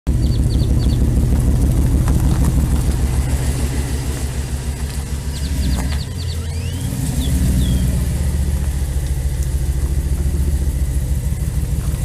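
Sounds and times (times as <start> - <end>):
pickup engine idling: 0.1 - 12.0.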